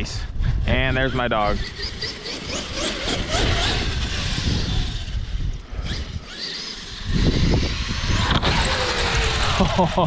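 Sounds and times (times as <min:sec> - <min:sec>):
electric motor whining: 0:00.9 - 0:10.0.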